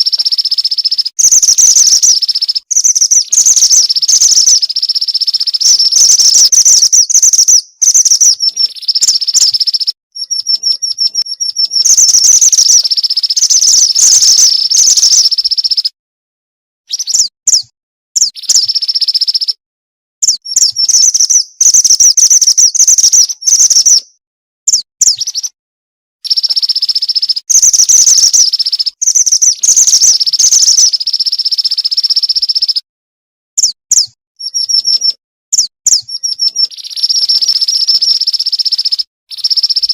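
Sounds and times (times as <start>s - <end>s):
bird chattering calls and trills: 0.0s - 16.0s, 16.9s - 19.6s, 20.2s - 25.6s, 26.2s - 32.8s, 33.6s - 39.9s.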